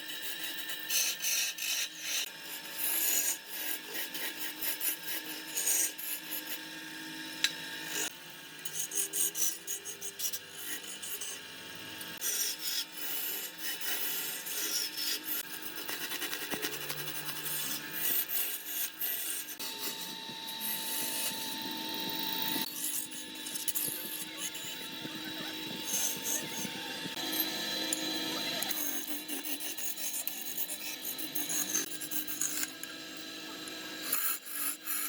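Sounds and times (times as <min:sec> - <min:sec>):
tool scraping spinning wood: 0:00.0 - 0:06.7, 0:07.4 - 0:35.0.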